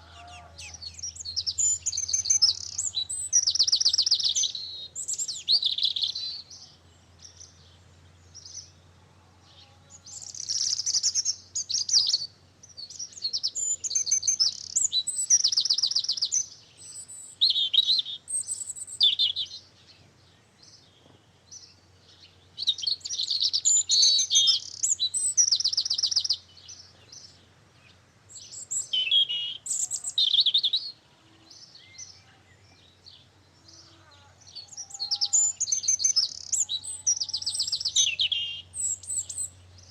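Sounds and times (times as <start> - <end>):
songbird trilling: 0.0 - 7.7, 10.0 - 19.6, 21.5 - 31.0, 33.7 - 39.9.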